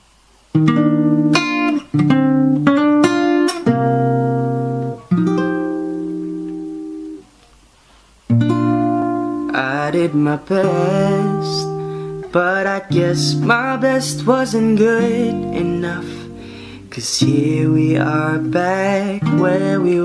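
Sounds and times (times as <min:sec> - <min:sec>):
acoustic guitar strummed chords: 0:00.5 - 0:07.3, 0:08.3 - 0:20.0.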